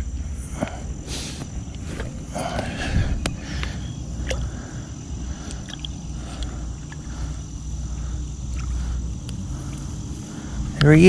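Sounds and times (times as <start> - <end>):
steady low rumble: 0.0 - 11.0
water sloshing and splashing: 1.5 - 10.6.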